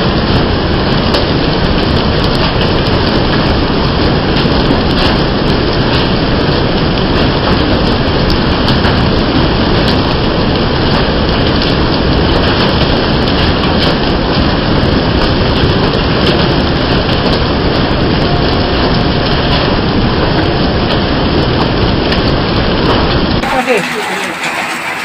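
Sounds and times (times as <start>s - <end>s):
heavy rain pouring: 0.0s - 25.0s
sharp ticks of rain impacts: 0.0s - 25.0s.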